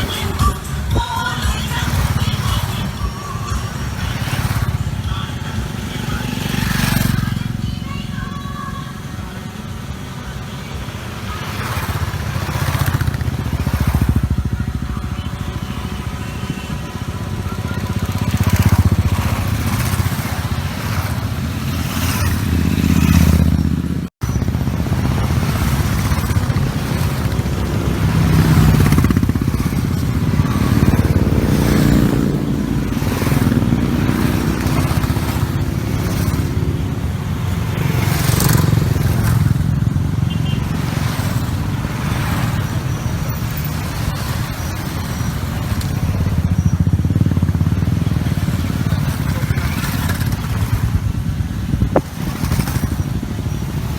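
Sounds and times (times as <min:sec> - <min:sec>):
motorcycles riding past: 0:00.0 - 0:53.9.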